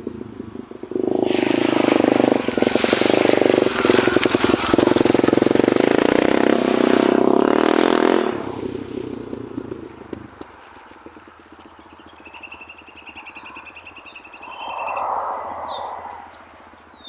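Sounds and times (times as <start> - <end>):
dirt bike engine passing by: 0.1 - 13.3, 14.2 - 17.0.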